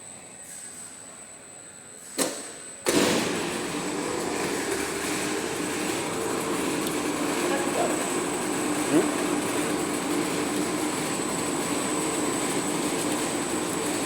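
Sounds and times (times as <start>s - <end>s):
loud machine noise with low hum: 0.0s - 14.0s.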